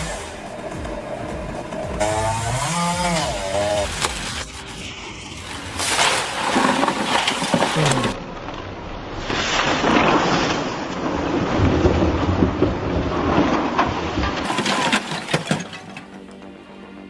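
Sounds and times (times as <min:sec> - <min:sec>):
machine grinding wood: 0:00.0 - 0:08.4, 0:09.4 - 0:17.0.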